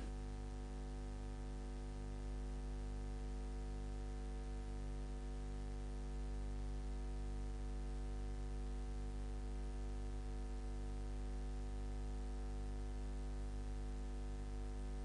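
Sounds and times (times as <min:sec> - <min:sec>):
electrical hum with buzz: 0:00.0 - 0:15.0.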